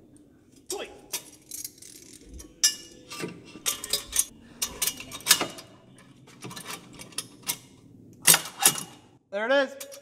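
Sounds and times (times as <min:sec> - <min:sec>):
metal pipes clinking: 0:00.6 - 0:09.1, 0:09.7 - 0:10.0.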